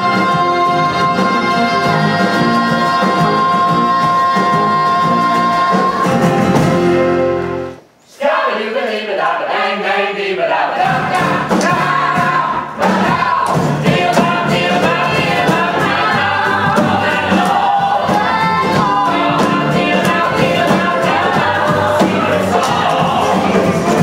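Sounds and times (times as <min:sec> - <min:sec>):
group singing in chorus: 0:00.0 - 0:06.8, 0:08.1 - 0:24.0
folk-rock accompaniment: 0:00.0 - 0:07.8, 0:10.8 - 0:24.0.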